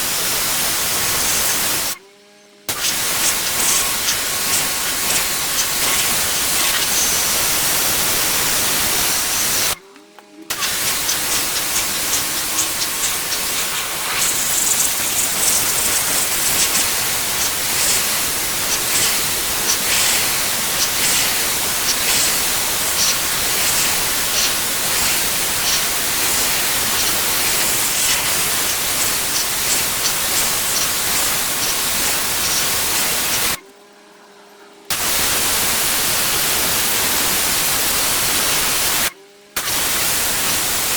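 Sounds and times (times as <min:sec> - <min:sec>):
pressure washer spraying paving: 0:00.0 - 0:02.0, 0:02.7 - 0:09.8, 0:10.5 - 0:33.6, 0:34.9 - 0:40.9.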